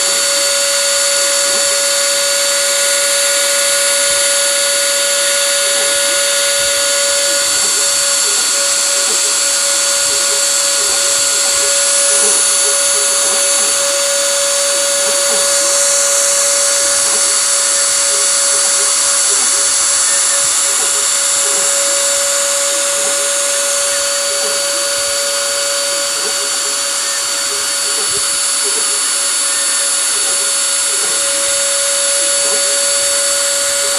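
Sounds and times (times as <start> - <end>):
cnc machine motor whine: 0.0 - 33.9.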